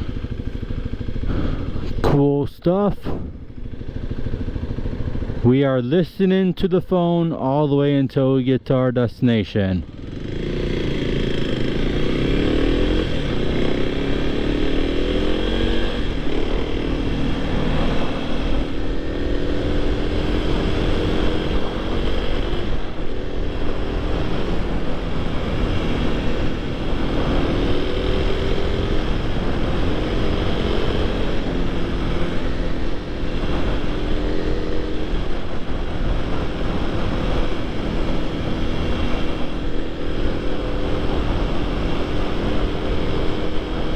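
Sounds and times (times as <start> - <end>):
motorcycle engine accelerating: 0.0 - 5.8, 9.8 - 43.9
low wind rumble: 0.0 - 9.0, 9.7 - 43.9.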